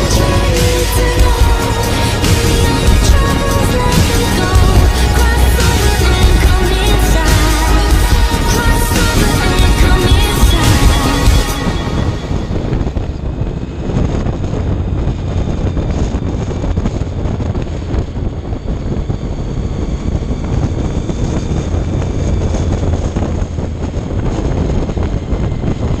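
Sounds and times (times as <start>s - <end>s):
motorcycle engine running: 0.0s - 26.0s
wind buffeting camera: 0.0s - 26.0s.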